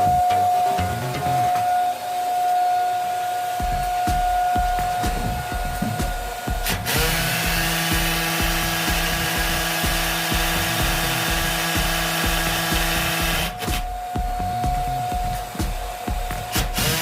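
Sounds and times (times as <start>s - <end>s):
background music with steady beat: 0.0s - 2.4s, 3.2s - 17.0s
power tool humming: 0.0s - 17.0s.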